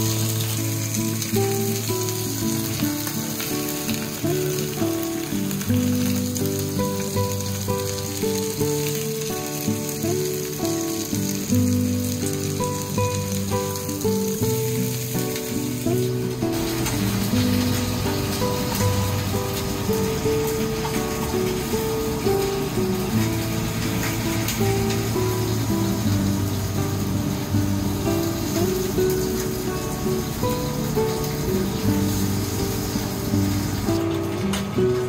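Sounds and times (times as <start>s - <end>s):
slow melodic background music: 0.0s - 35.0s
steak sizzling in a frying pan: 0.0s - 35.0s.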